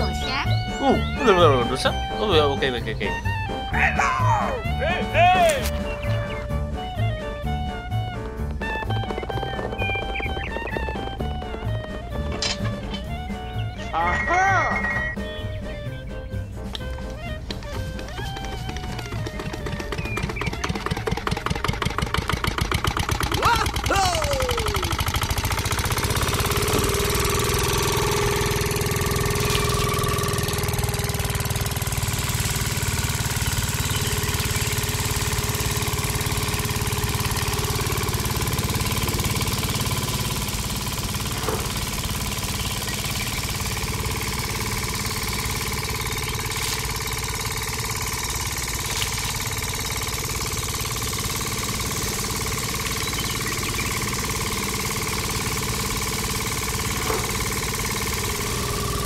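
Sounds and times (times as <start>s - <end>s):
small motor running: 5.7s - 14.4s, 16.8s - 59.0s.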